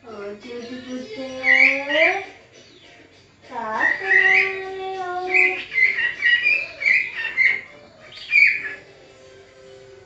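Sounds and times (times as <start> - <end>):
parrot calling and chirping: 0.0 - 9.2.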